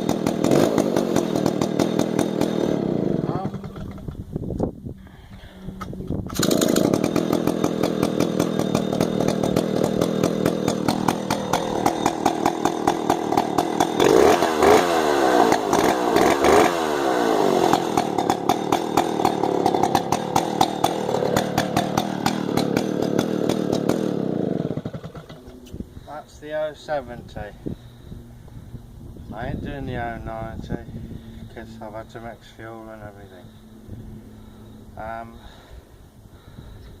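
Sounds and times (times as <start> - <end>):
chainsaw starting and revving: 0.0 - 4.3, 5.0 - 28.6, 29.3 - 35.8.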